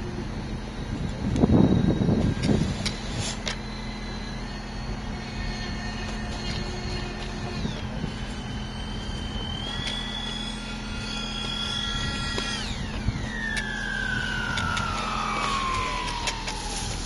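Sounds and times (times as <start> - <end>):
model jet fans whining: 0.0 - 17.0.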